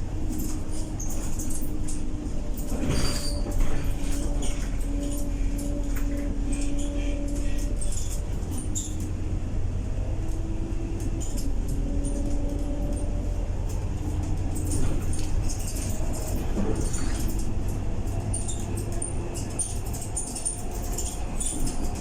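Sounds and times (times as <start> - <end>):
bus engine drone and whine: 0.0 - 22.0
rattles and clicks from bus body: 0.0 - 22.0.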